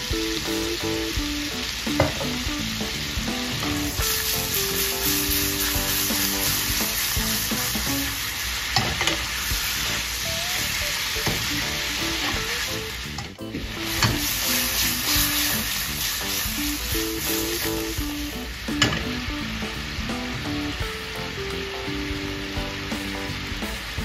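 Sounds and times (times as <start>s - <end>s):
prawns sizzling in a pan: 0.0s - 24.0s.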